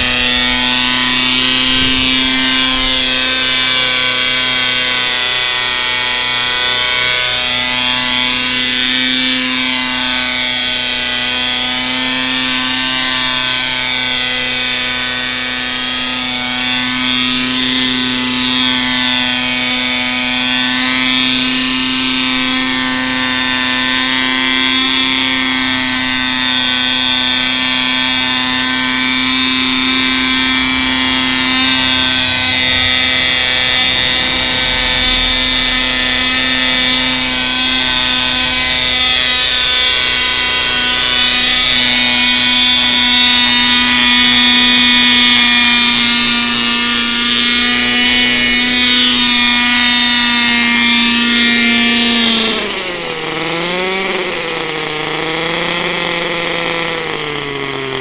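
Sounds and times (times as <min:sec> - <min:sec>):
model helicopter engine and rotors: 0:00.0 - 0:58.0.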